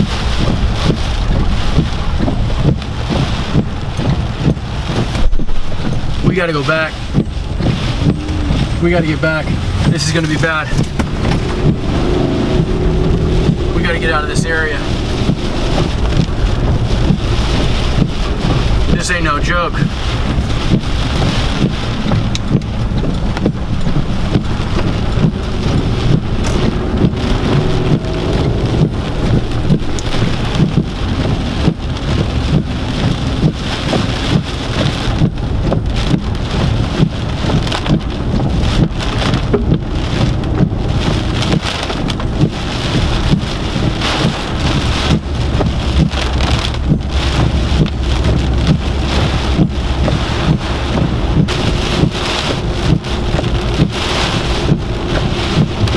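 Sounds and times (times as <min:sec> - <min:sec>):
heavy rain pelting a car: 0:00.0 - 0:55.9
low rumble: 0:00.0 - 0:55.9
wind: 0:00.0 - 0:55.9.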